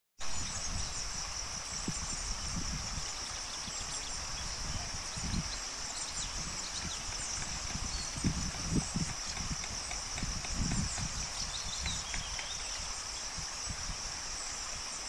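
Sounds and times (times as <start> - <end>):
insects droning: 0.2 - 15.0.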